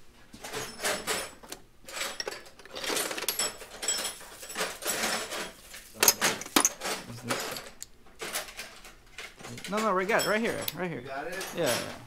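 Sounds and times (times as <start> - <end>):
metal tools clattering in drawer: 0.4 - 10.7, 11.3 - 12.0.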